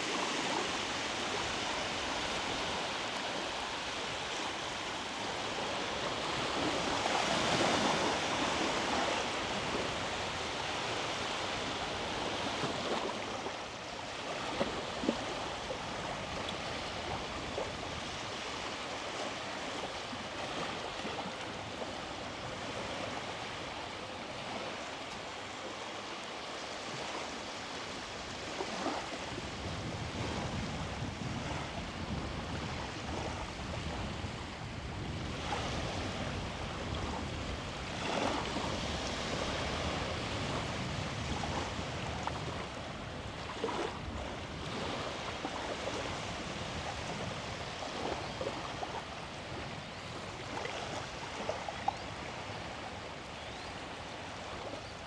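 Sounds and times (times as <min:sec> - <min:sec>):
small waves washing on beach: 0:00.0 - 0:55.0.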